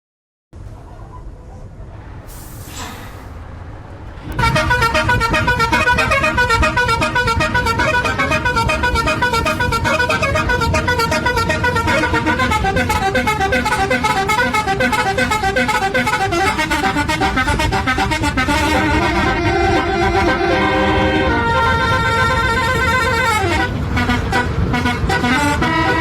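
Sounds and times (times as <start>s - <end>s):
multi-tone bus horn: 4.2s - 26.0s.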